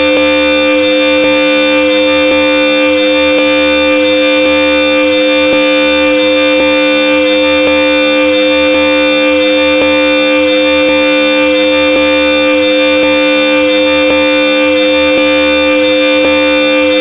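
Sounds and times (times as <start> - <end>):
two-tone car horn: 0.0 - 17.0.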